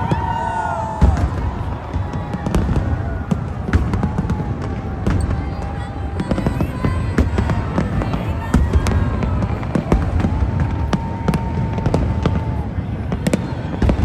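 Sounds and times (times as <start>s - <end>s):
fireworks cracking and banging: 0.0s - 14.0s
low rumble of explosions: 0.0s - 14.0s.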